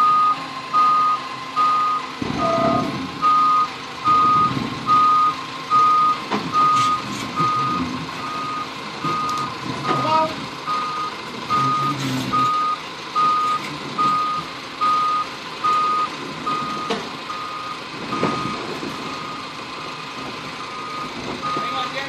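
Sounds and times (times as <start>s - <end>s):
forklift warning alarm beeping: 0.0s - 22.0s.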